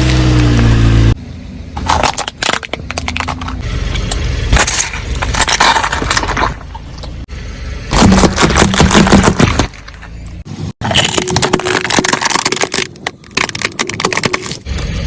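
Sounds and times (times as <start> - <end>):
car low rumble: 0.0 - 15.0
objects crunching under tyres: 0.0 - 15.0.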